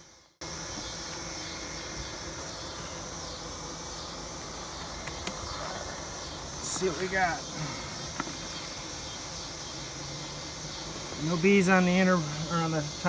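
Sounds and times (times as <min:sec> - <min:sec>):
honey bees buzzing: 0:00.0 - 0:13.0.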